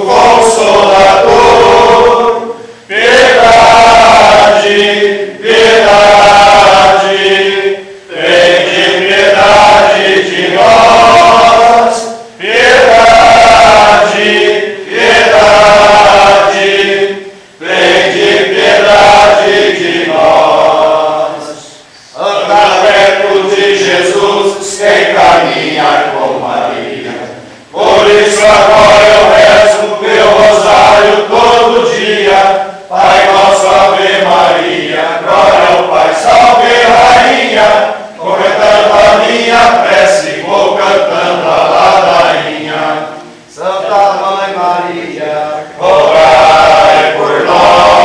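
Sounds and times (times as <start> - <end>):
congregation chanting: 0.0 - 48.0.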